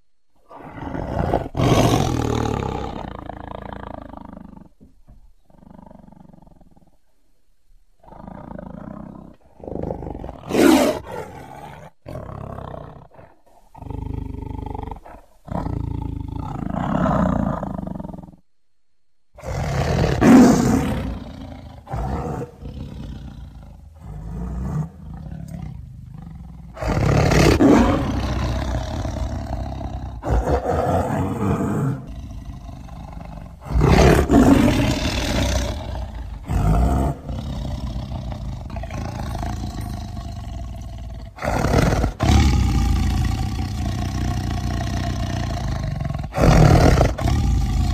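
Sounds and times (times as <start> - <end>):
tiger roaring: 0.4 - 4.8, 5.4 - 7.0, 8.0 - 18.4, 19.4 - 47.9
tiger growling: 0.4 - 7.2, 7.9 - 18.4, 19.4 - 47.9.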